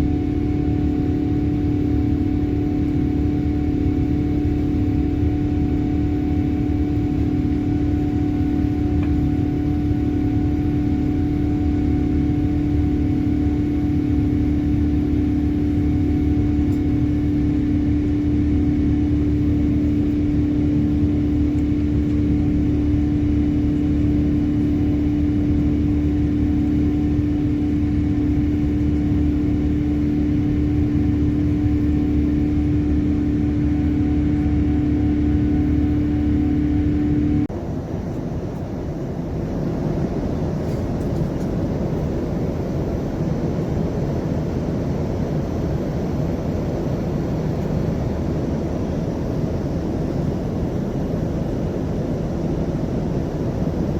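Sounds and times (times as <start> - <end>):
airliner cabin engine drone: 0.0 - 53.9.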